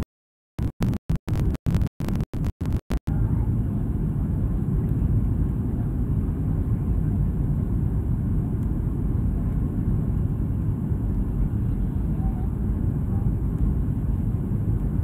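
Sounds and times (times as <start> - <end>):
airliner cabin rumble: 2.6 - 15.0.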